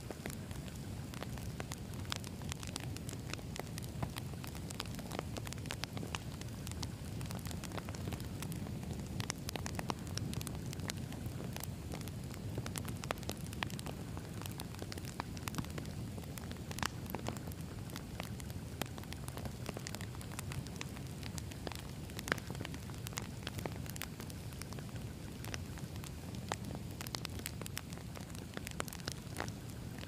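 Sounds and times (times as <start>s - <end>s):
campfire flames hissing: 0.0s - 30.0s
fire crackling and popping: 0.0s - 30.0s.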